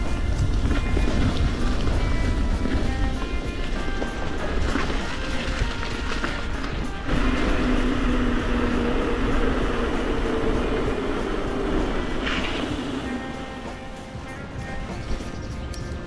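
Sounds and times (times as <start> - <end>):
bike tyres rolling roar: 0.0 - 16.0.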